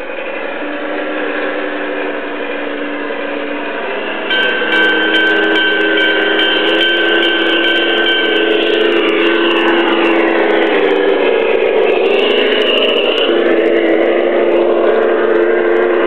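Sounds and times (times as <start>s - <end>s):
high whine: 0.0s - 16.0s
model diesel engine sound: 0.0s - 16.0s.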